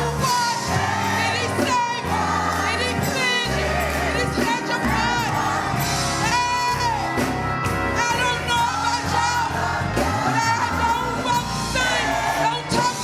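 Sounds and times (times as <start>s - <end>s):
gospel song with instruments: 0.0s - 13.0s
sustained bass notes: 0.0s - 13.0s.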